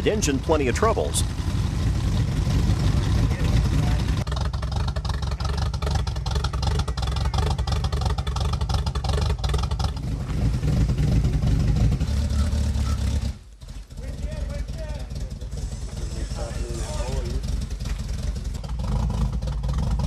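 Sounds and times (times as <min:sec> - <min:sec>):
engine running hard under load: 0:00.0 - 0:08.6, 0:09.4 - 0:20.0.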